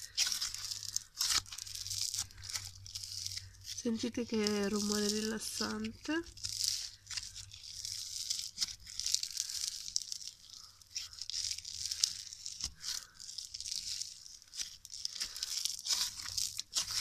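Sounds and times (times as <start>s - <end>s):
slime crackling and tearing: 0.0s - 17.0s.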